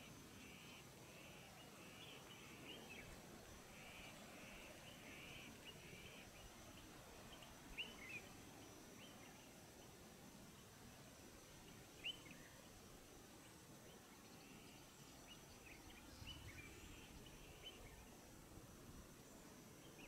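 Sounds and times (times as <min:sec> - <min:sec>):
low steady hiss: 0:00.0 - 0:20.0.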